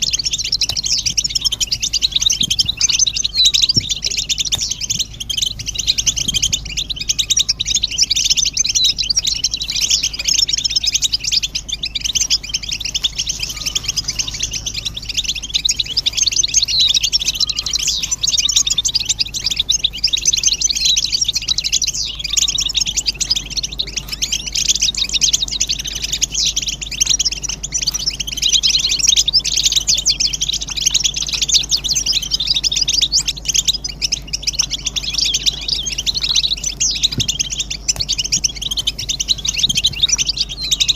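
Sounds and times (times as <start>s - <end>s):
goldfinches twittering: 0.0s - 40.9s.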